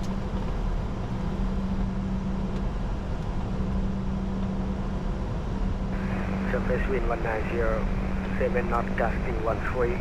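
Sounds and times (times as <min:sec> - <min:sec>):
jet cockpit rumble and air rush: 0:00.0 - 0:10.0
steady hum: 0:00.0 - 0:10.0.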